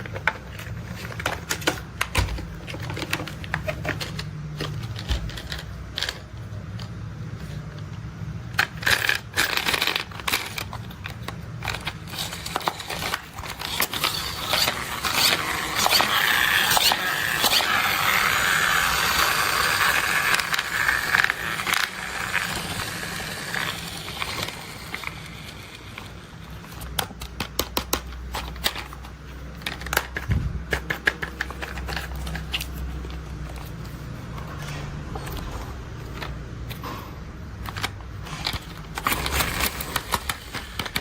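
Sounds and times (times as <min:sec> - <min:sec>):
plastic toys rustling and scraping: 0:00.0 - 0:41.0.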